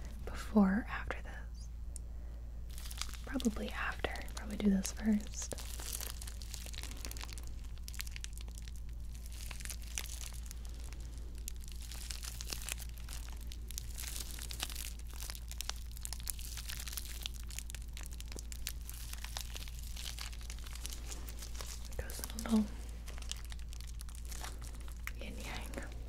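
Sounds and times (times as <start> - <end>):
plastic packaging crinkling: 2.7 - 26.0.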